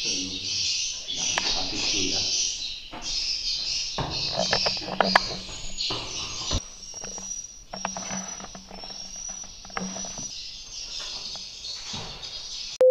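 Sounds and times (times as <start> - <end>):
swiftlets chirping: 0.0 - 12.8.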